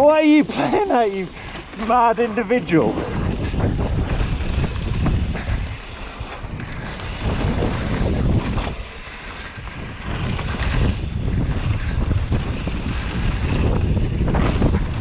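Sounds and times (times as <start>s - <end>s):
mountain bike tyre rumble: 0.0s - 15.0s
wind buffeting microphone: 0.0s - 15.0s.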